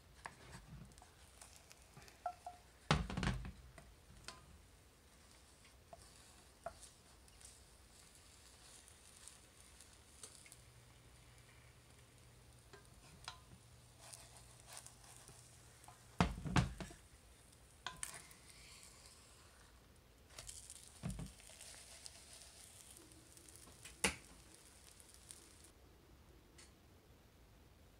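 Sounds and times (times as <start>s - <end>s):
wooden spatula scraping a pan: 0.2s - 2.9s, 3.8s - 25.7s
omelette sizzling in a skillet: 0.2s - 25.7s.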